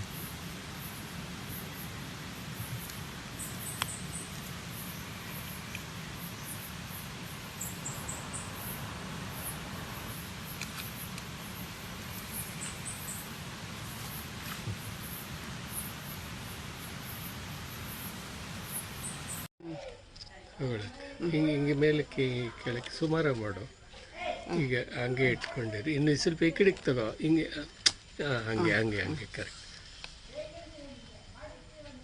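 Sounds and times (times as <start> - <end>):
steady background hiss: 0.0 - 19.5, 20.6 - 32.0.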